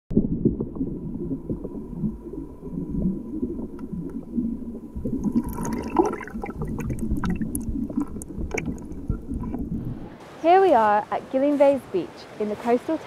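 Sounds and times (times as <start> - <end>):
water churning and gurgling: 0.1 - 13.0.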